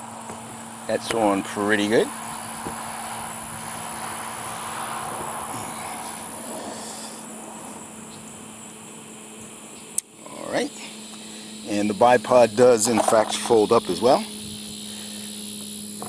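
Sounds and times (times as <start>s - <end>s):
crickets trilling: 0.0s - 16.0s
distant engine noise: 0.0s - 16.0s.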